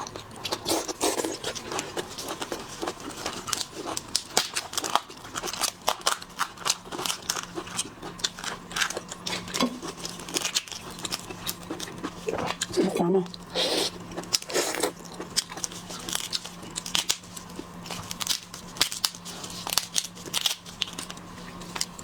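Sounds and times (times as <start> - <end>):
chewing crunches: 0.0 - 22.0.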